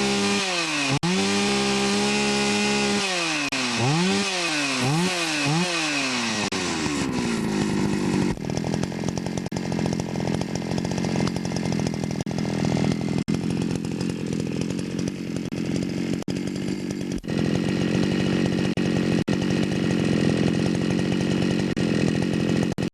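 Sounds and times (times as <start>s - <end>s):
chainsaw idling: 0.0s - 22.9s.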